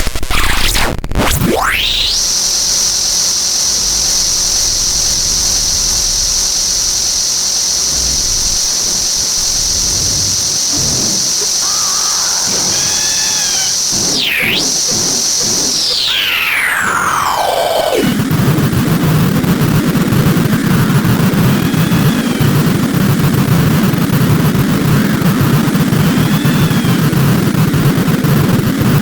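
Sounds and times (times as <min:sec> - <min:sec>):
high-pitched electronic screech: 0:00.3 - 0:24.1
faint warbling tones: 0:01.2 - 0:28.4
hiss: 0:01.5 - 0:29.0.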